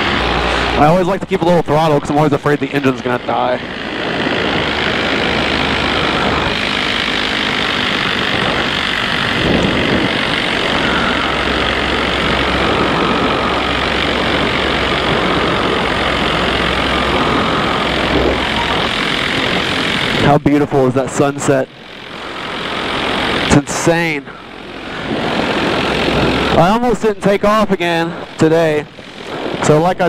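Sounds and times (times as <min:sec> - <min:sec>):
paramotor engine and propeller: 0:00.0 - 0:30.0.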